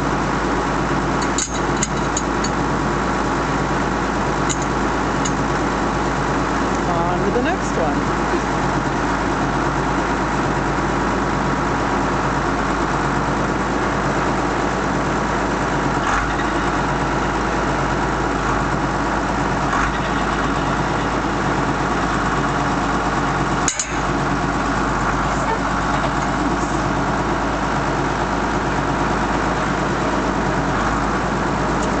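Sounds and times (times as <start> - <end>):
tractor engine idling: 0.0 - 32.0.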